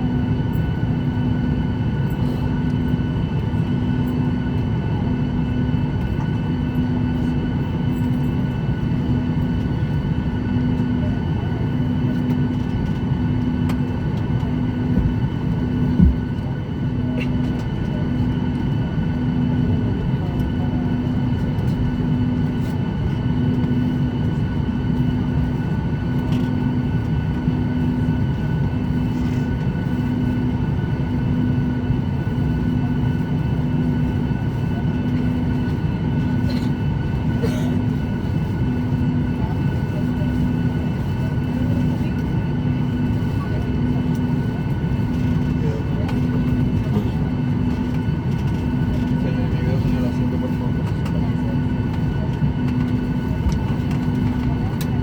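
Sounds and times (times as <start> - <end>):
pulsing low hum: 0.0 - 54.9
aircraft cabin drone: 0.0 - 55.0.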